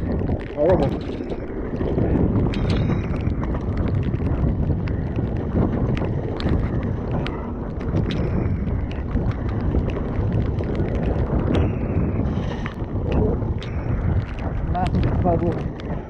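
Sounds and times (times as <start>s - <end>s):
bike clicks and rattles: 0.0s - 16.0s
gusting wind buffeting microphone: 0.0s - 16.0s
mountain bike rolling over rough trail: 0.0s - 16.0s.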